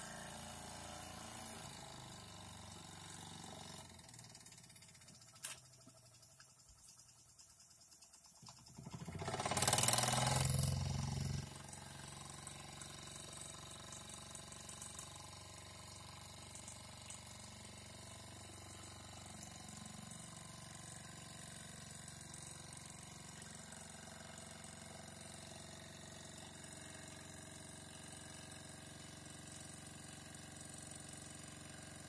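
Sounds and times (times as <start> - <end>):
small steam engine running: 0.0 - 32.0.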